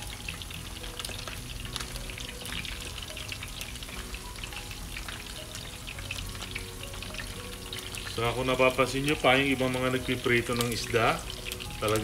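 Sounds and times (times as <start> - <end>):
fish sizzling in hot oil: 0.0 - 12.0
oil popping: 0.0 - 12.0.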